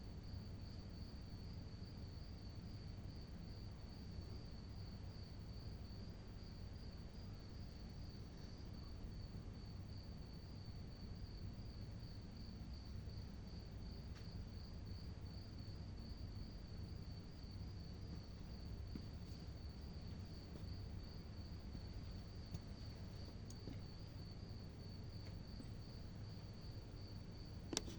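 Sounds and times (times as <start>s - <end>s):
cricket chirping: 0.0s - 27.9s
faint low hum: 0.0s - 27.9s.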